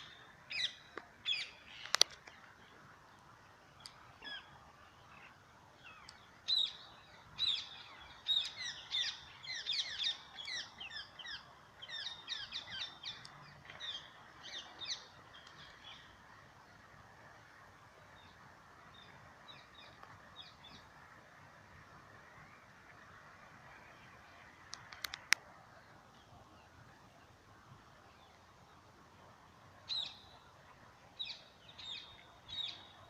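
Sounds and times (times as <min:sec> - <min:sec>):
songbirds chirping: 0:00.0 - 0:33.0
steady background hiss: 0:00.0 - 0:33.0.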